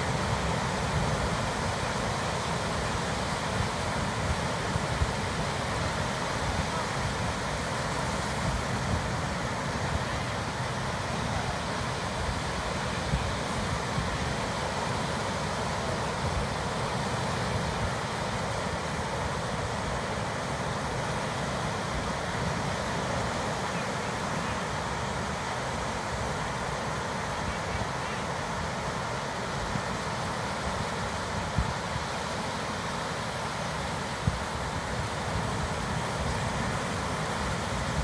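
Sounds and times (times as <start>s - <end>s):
ocean surf on rocky shore: 0.0s - 38.0s.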